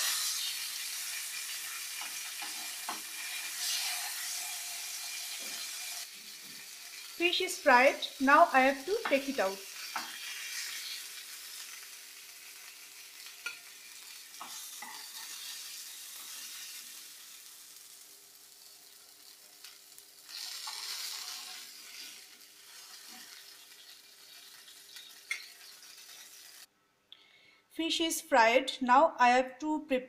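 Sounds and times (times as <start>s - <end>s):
oil sizzling in frying pan: 0.0s - 26.7s.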